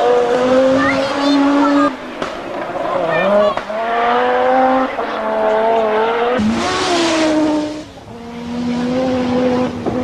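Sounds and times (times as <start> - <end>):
rally car engine running hard: 0.0 - 10.0.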